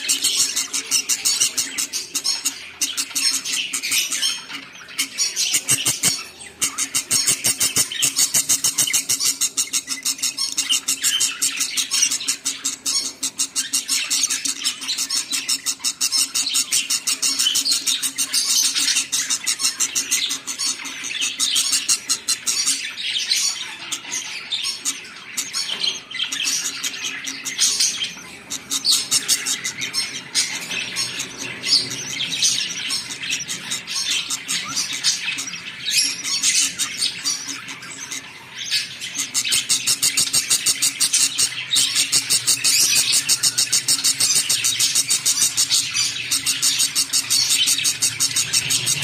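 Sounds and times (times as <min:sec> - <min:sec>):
budgerigars chirping and squawking: 0:00.0 - 0:49.0.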